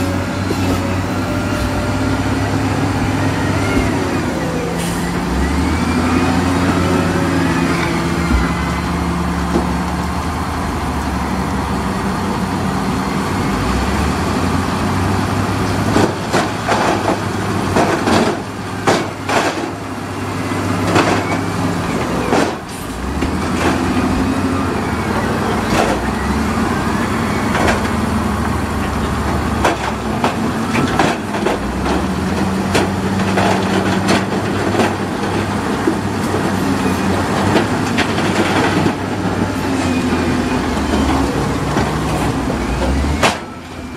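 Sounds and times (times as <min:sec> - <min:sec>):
diesel machinery engine: 0:00.0 - 0:43.9.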